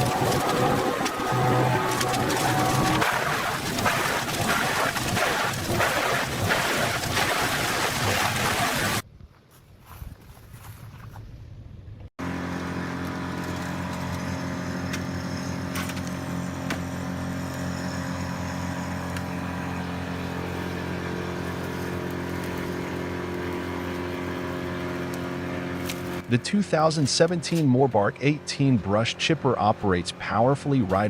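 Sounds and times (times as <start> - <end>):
brush chipper engine running: 0.0 - 9.0, 12.2 - 31.0.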